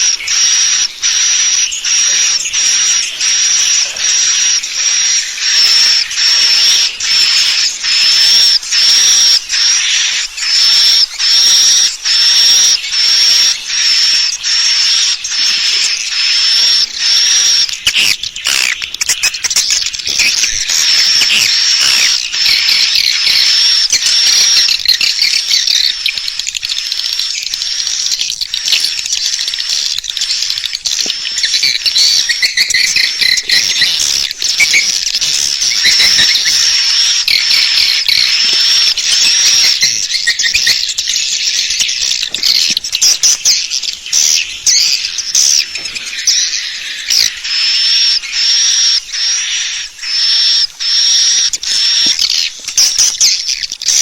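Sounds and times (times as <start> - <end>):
swiftlets twittering: 0.0 - 54.0.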